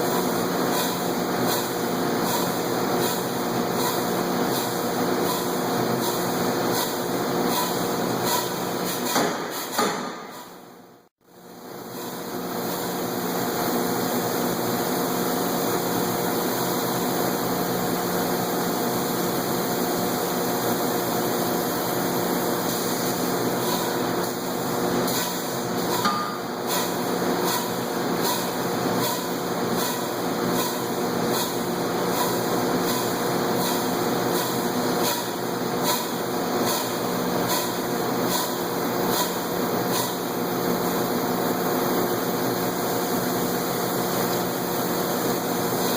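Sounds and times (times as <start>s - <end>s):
industrial machinery humming: 0.0s - 45.9s.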